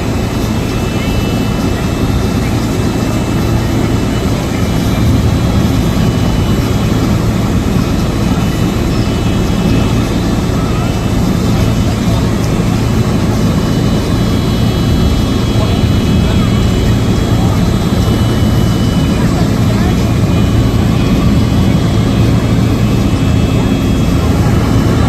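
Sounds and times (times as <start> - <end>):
loud engine rumble: 0.0 - 25.0.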